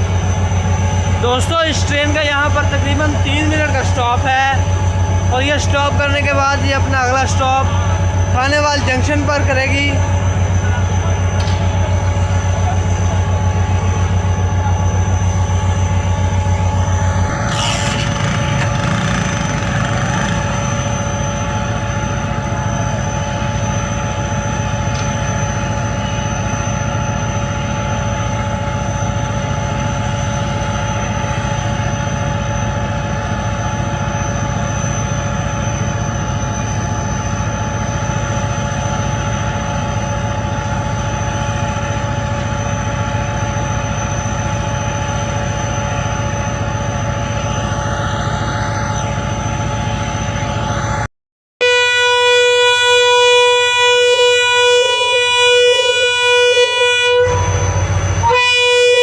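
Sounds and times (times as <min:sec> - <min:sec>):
locomotive engine idling: 0:00.0 - 0:51.0.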